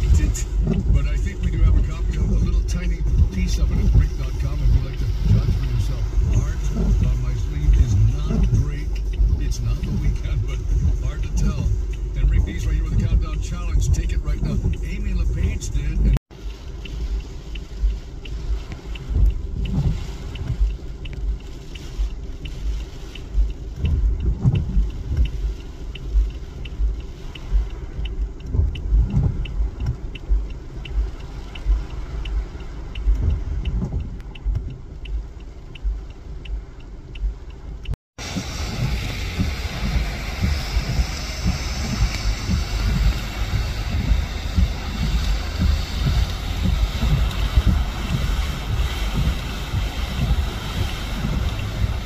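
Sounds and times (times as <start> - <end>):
car engine rumble: 0.0 - 52.0
light regular ticking: 0.0 - 52.0.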